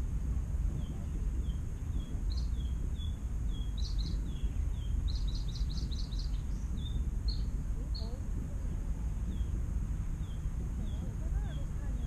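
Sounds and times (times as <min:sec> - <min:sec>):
small birds calling: 0:00.0 - 0:12.0
steady low rumble: 0:00.0 - 0:12.0.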